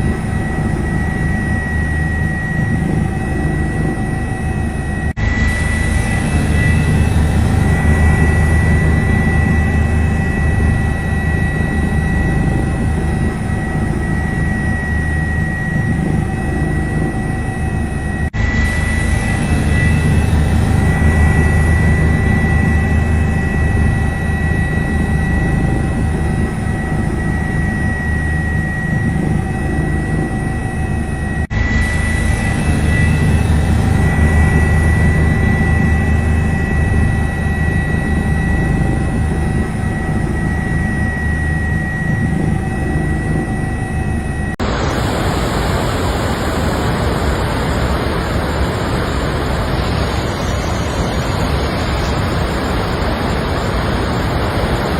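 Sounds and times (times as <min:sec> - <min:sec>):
aircraft engine rumble and whine: 0:00.0 - 0:54.9.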